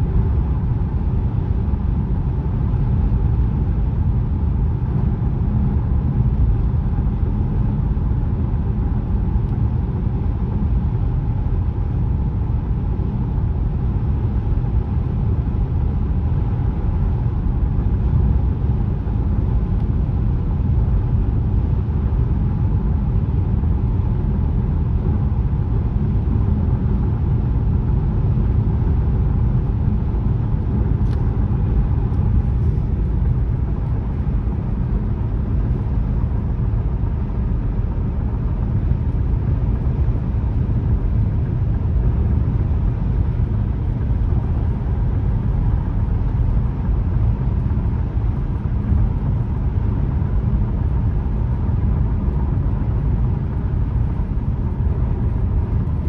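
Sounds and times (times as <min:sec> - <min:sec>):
low engine rumble: 0:00.0 - 0:56.0
road and tyre noise: 0:00.0 - 0:56.0.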